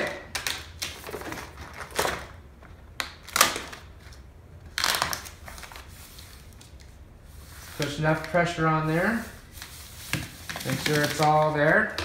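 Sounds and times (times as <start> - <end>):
vinyl film rustling and crinkling: 0.0 - 12.0.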